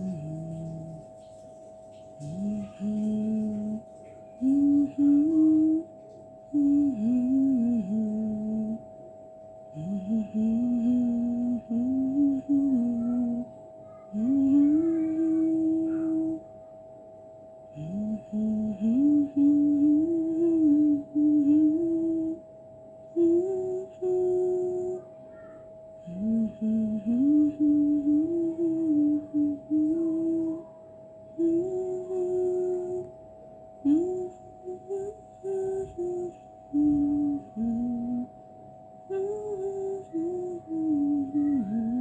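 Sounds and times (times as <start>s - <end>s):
person humming a slow tune: 0.0s - 16.9s, 17.6s - 42.0s
faint steady tone: 0.0s - 42.0s.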